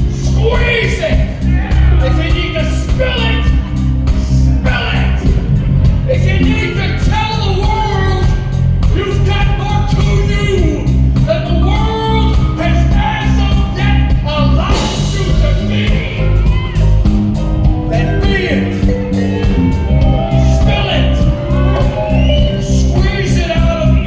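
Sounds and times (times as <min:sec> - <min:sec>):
drum beat: 0:00.0 - 0:24.0
live band playing: 0:00.0 - 0:24.0.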